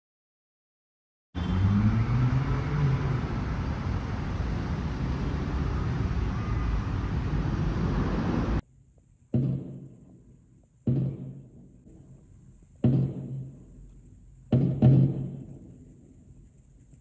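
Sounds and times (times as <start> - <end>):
vehicle engine rumble: 1.4 - 17.0.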